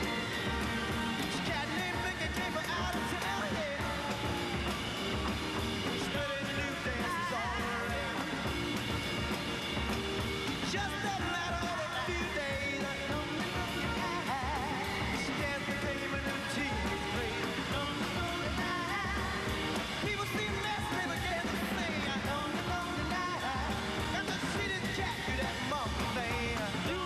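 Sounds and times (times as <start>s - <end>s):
man singing lead: 0.0s - 9.2s, 10.4s - 27.0s
drums: 0.0s - 27.0s
electric guitar: 0.0s - 27.0s
organ: 0.0s - 27.0s
second singer: 0.0s - 27.0s.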